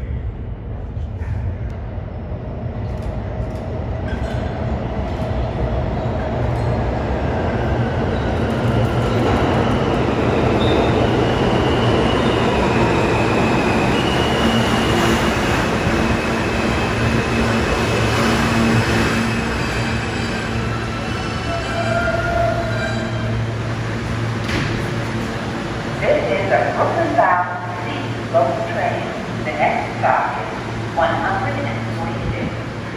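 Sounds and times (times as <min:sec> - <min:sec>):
subway train wheels rumbling on rails: 0:00.0 - 0:32.9.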